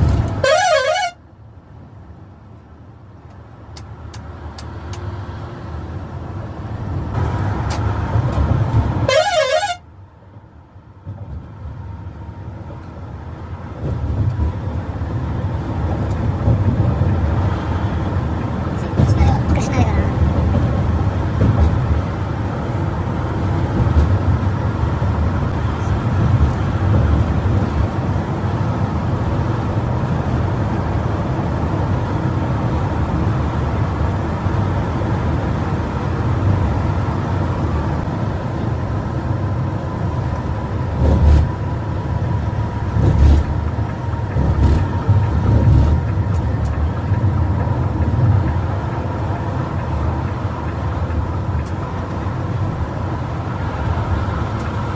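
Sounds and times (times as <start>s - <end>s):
bus engine and road rumble: 0.0s - 54.9s.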